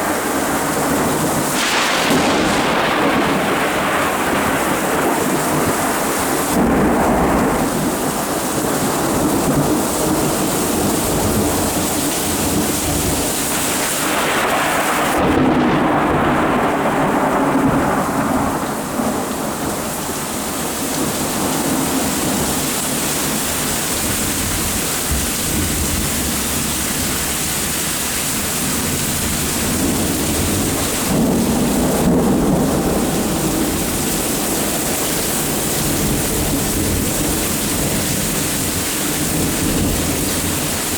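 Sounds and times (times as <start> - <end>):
rolling thunder: 0.0 - 40.9
steady rain: 0.0 - 40.9.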